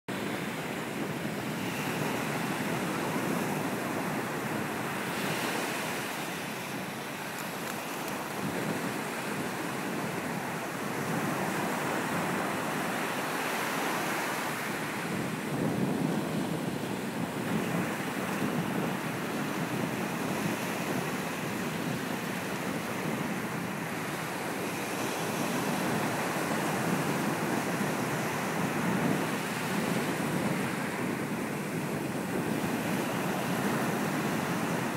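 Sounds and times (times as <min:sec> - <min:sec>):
surf breaking on beach: 0:00.1 - 0:34.9.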